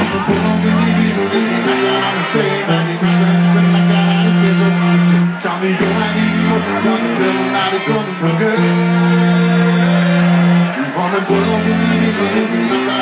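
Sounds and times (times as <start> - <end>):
brass band playing through pa: 0.0 - 13.0.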